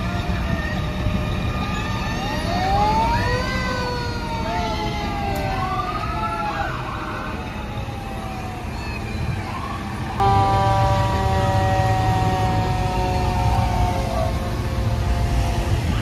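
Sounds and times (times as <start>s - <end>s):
fire truck sirens wailing: 0.0s - 16.0s
low rumble of fire trucks: 0.0s - 16.0s.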